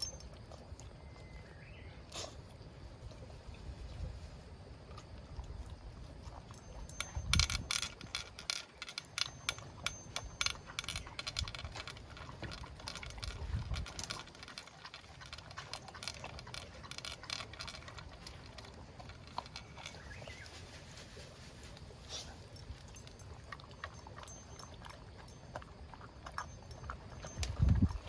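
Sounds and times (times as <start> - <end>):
pet crunching food: 4.9 - 28.0.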